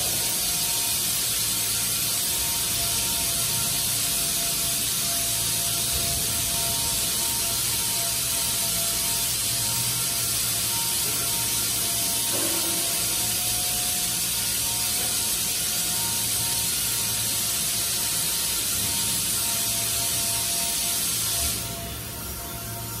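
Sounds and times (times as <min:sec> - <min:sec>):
welding arc hissing: 0:00.0 - 0:23.0.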